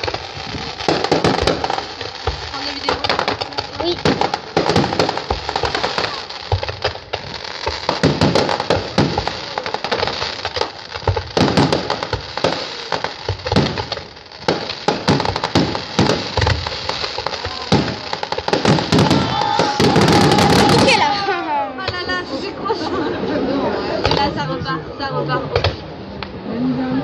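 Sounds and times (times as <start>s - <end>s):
fireworks shells bursting: 0.0s - 22.3s
crackling fireworks stars: 0.0s - 23.1s.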